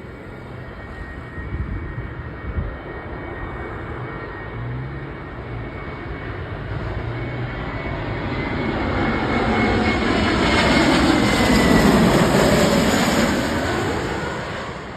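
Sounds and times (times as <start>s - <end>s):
faint high jet whine: 0.0s - 14.9s
jet engine rushing: 0.0s - 14.9s.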